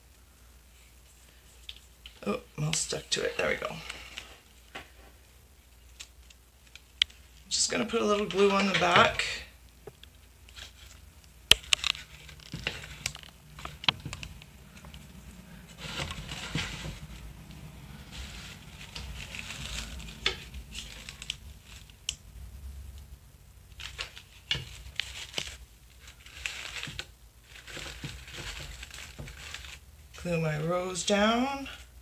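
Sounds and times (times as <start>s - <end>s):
rustling artificial flowers: 0.0s - 32.0s.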